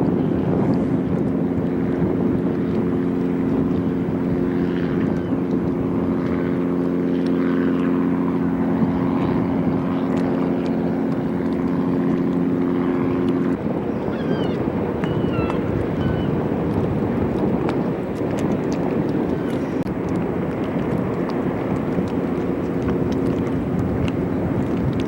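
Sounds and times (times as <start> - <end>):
boat engine humming: 0.0 - 25.0
water wash: 0.0 - 25.0.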